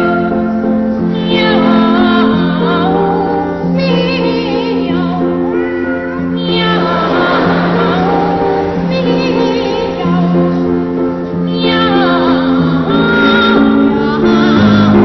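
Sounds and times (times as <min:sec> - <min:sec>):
piano accompaniment: 0:00.0 - 0:15.0.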